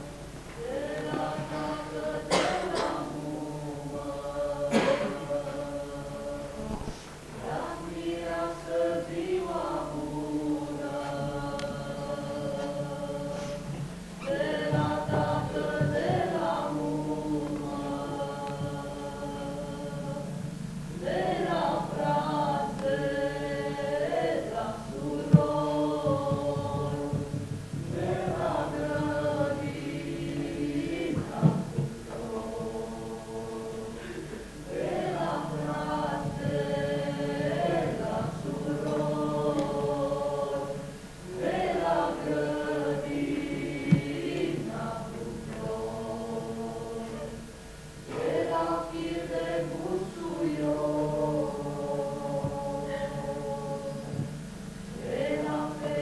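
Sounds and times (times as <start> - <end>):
choir singing chant-like phrases: 0.0 - 56.0.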